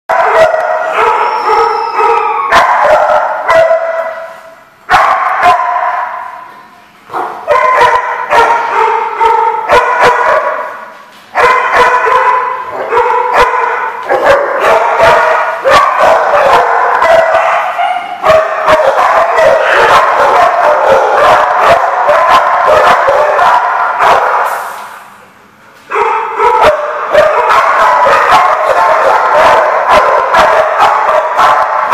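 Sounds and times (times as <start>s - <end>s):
dogs barking and yipping: 0.1s - 6.5s, 7.1s - 24.6s, 25.9s - 31.9s.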